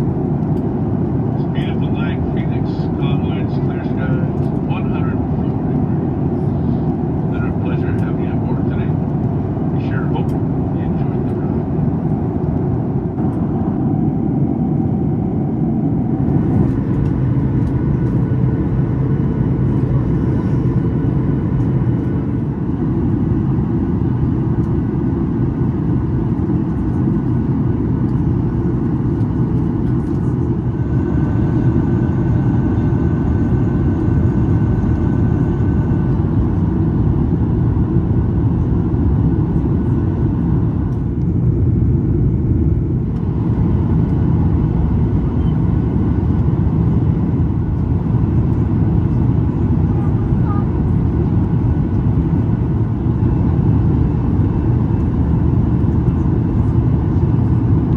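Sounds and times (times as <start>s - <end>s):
airplane cabin roar: 0.0s - 57.9s
faint steady whines: 0.0s - 57.9s.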